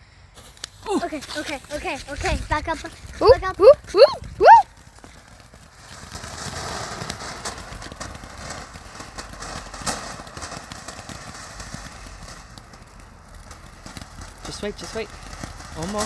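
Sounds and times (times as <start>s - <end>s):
firework hissing and crackling: 0.0s - 16.0s
sharp firework crack: 0.2s - 16.0s.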